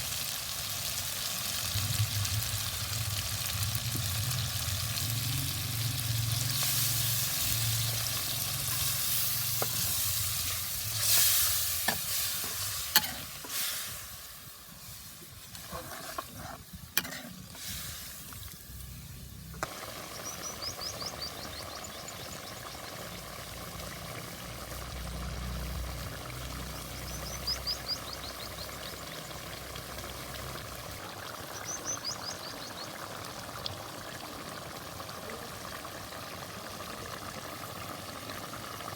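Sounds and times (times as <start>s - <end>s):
curry sizzling in a pot: 0.0s - 38.9s.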